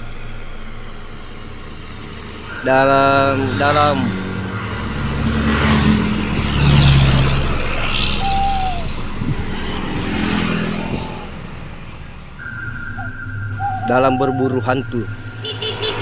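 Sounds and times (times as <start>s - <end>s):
traffic engine hum: 0.0s - 16.0s
vehicles passing: 0.0s - 16.0s.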